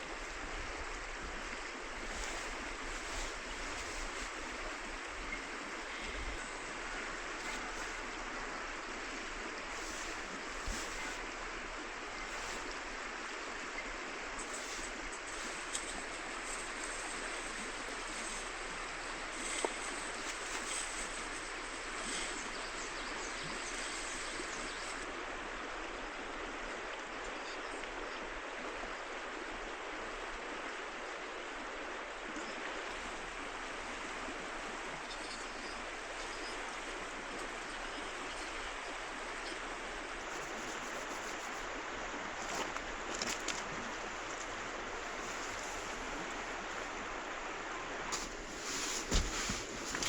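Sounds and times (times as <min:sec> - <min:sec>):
river flowing: 0:00.0 - 0:50.0.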